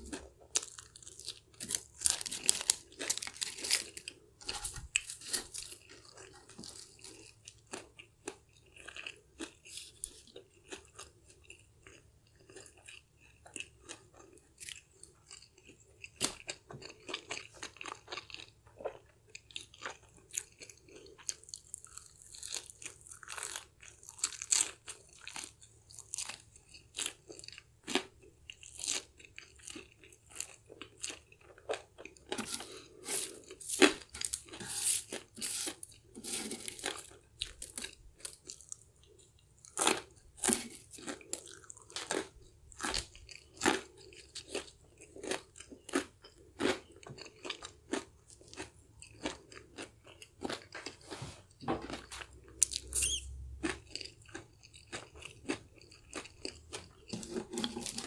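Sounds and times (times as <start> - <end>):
crunching fried chicken: 0.0 - 58.0.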